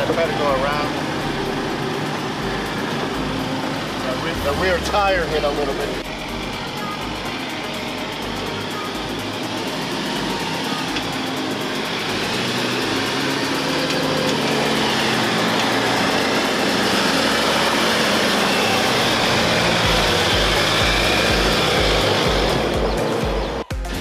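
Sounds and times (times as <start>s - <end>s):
vehicle engine running slowly: 0.0s - 24.0s.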